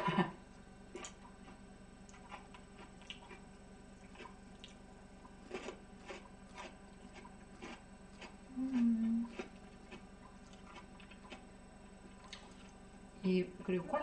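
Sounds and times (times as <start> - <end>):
person chewing food: 0.9 - 12.8.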